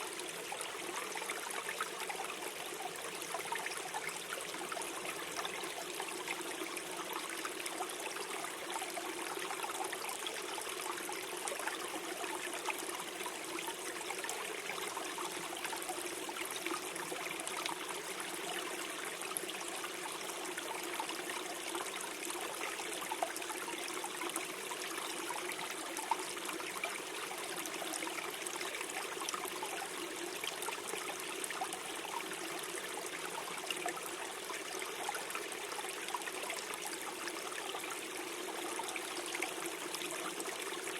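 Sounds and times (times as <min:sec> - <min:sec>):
stream gurgling over stones: 0:00.0 - 0:40.9.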